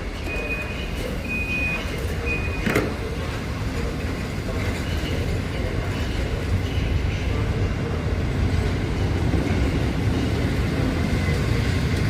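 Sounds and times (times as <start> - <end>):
train rumbling slowly: 0.0 - 12.0.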